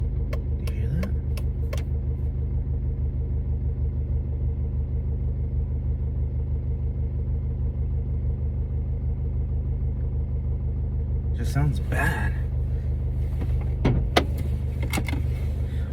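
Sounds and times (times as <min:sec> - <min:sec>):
car engine idling with rattle: 0:00.0 - 0:15.9.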